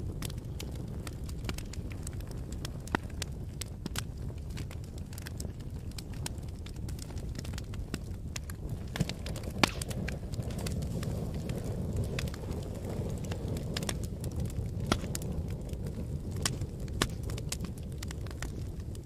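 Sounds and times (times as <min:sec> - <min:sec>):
burning wood crackling: 0:00.0 - 0:19.0
low rumble of flames: 0:00.0 - 0:19.0.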